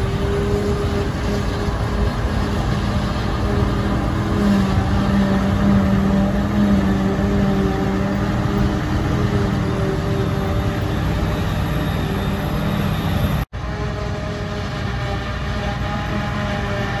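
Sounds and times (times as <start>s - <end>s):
engine drone with humming tone: 0.0s - 17.0s.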